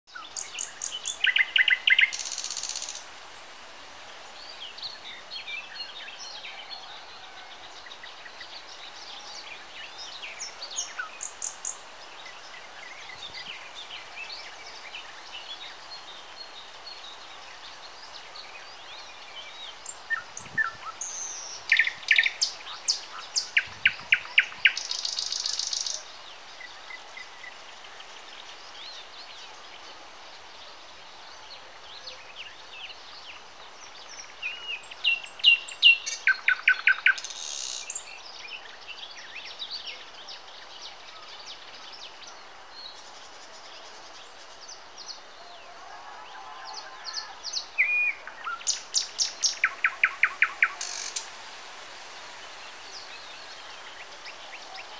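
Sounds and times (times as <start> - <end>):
nightingale singing: 0.1 - 3.0, 4.4 - 27.6, 31.6 - 51.3.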